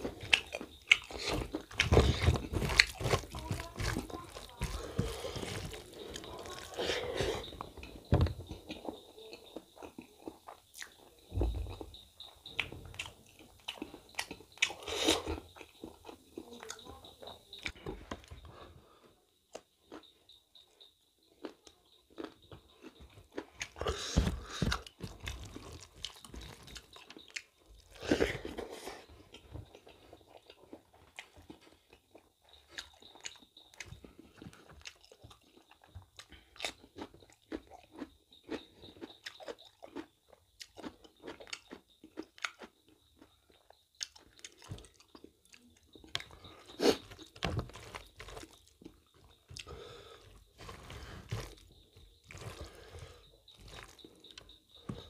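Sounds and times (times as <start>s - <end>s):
wet chewing and smacking: 0.0s - 18.4s, 21.3s - 55.0s.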